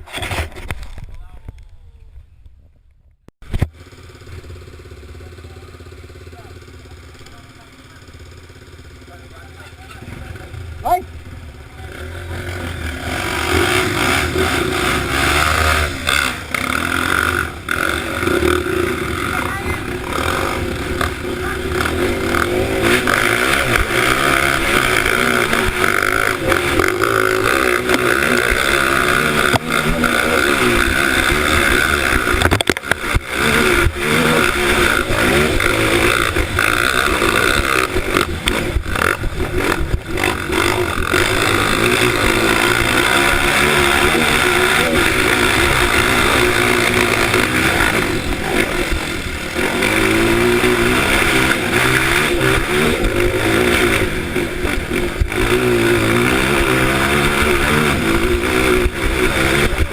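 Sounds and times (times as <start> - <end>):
motorcycle engine revving: 3.5 - 59.9.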